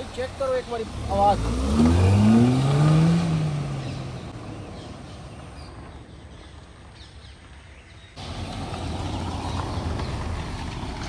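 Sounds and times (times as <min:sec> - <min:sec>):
car engine pulling away: 0:00.0 - 0:11.0.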